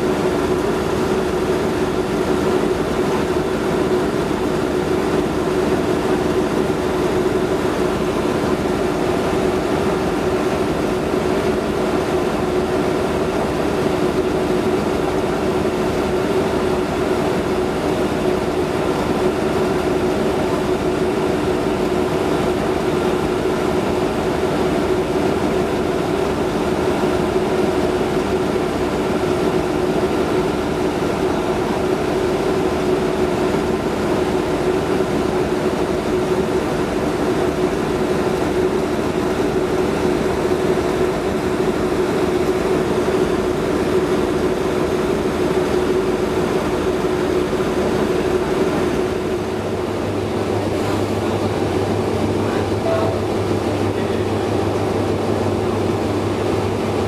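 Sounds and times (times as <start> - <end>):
locomotive engine droning hum: 0.0 - 57.0.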